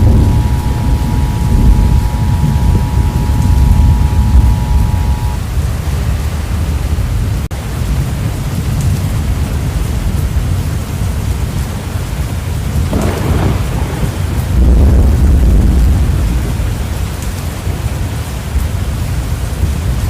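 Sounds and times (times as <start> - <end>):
rain: 0.0 - 20.0
storm wind rumble: 0.0 - 20.0.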